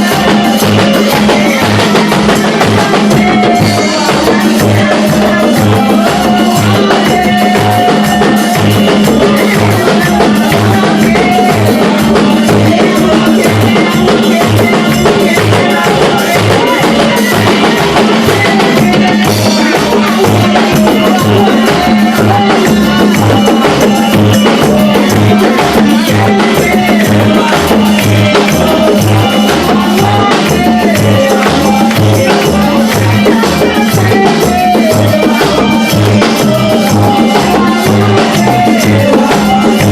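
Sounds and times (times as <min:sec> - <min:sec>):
live worship band music: 0:00.0 - 0:39.9.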